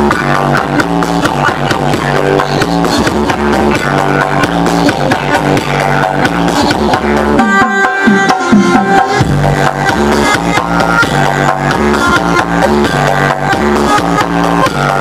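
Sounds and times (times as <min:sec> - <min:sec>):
electronic dance music: 0:00.0 - 0:15.0
heavy pulsing bass: 0:00.0 - 0:15.0.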